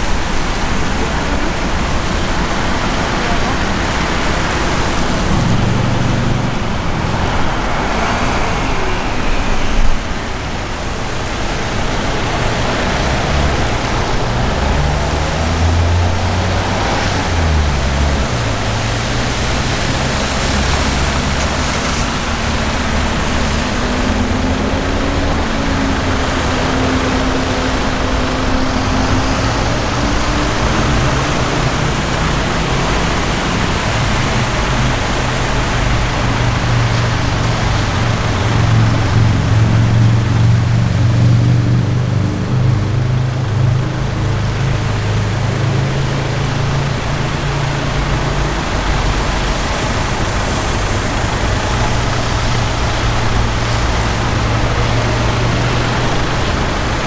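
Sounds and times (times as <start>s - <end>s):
car engines running: 0.0s - 57.0s
road traffic noise: 0.0s - 57.0s.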